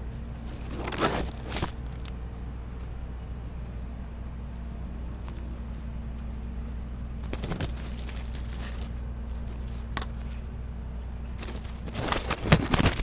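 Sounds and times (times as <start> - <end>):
footsteps crunching on ground: 0.0 - 13.0
low rumble: 0.0 - 13.0.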